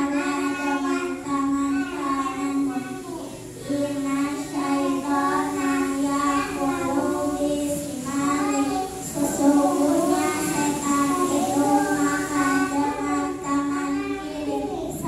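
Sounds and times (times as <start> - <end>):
girls singing into a microphone: 0.0 - 15.0.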